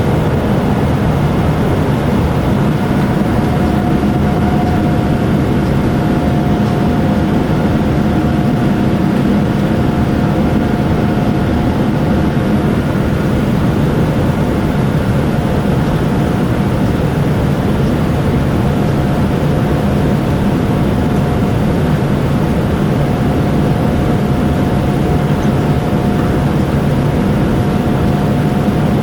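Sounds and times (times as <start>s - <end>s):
jet engine cabin rumble: 0.0s - 29.0s
thin steady whine: 0.0s - 29.0s.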